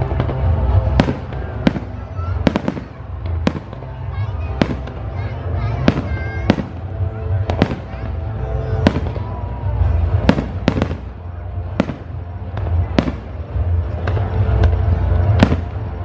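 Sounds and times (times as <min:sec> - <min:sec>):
fireworks bangs: 0:00.0 - 0:16.0
music soundtrack: 0:00.0 - 0:16.0.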